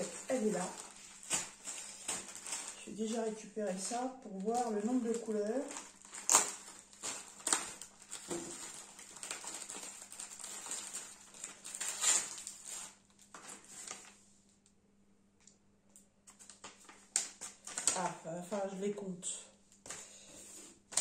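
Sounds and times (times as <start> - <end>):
paper and packaging rustling: 0.0 - 14.3, 16.3 - 19.0, 19.7 - 21.0.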